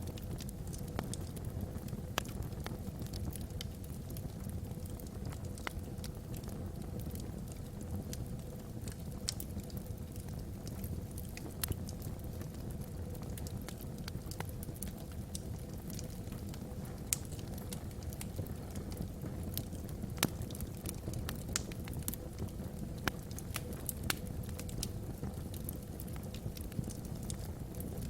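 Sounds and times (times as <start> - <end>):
logs crackling and popping: 0.0 - 28.0
low fire rumble: 0.0 - 28.0.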